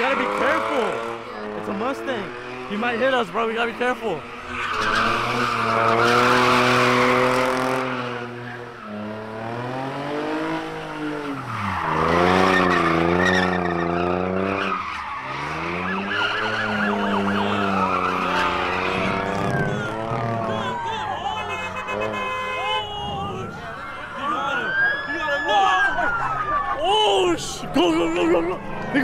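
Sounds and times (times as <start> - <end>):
tyres screeching: 0.0 - 9.6, 11.0 - 29.0
car engine revving: 0.0 - 23.8.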